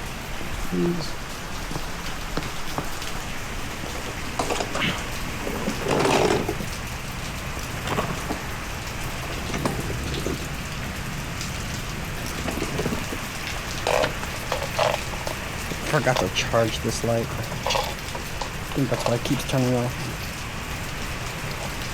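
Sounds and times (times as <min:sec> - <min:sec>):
liquid trickling into a pan: 0:03.2 - 0:21.9.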